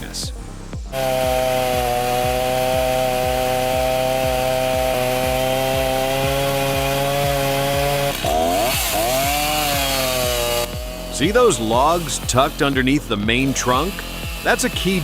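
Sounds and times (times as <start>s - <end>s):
chainsaw at high revs: 0.0s - 15.0s.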